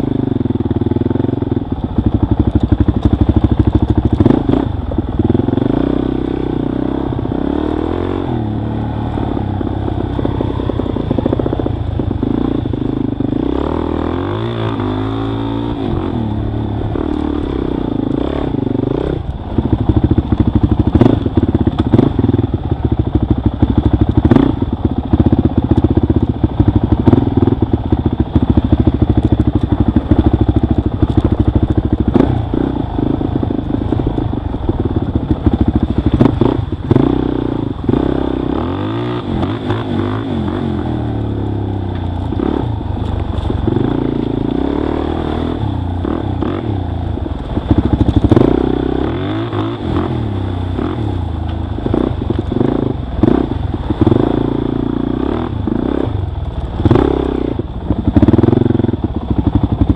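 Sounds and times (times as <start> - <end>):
dirt bike engine revving: 0.0 - 56.2, 56.8 - 59.9.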